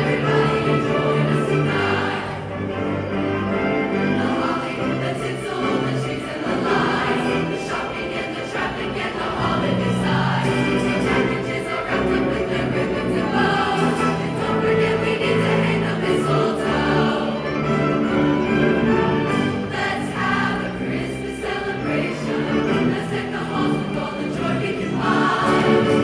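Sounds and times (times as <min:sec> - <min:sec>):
large choir singing: 0:00.0 - 0:26.0.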